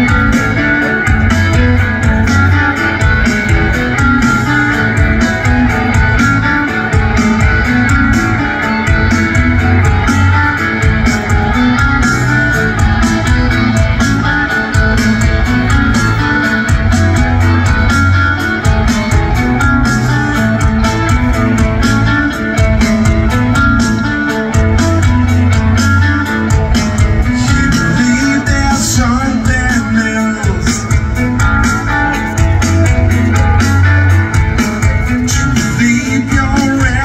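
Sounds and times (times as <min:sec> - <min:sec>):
bass guitar: 0:00.0 - 0:37.0
steady drum beat: 0:00.0 - 0:37.0
strummed electric guitars: 0:00.0 - 0:37.0.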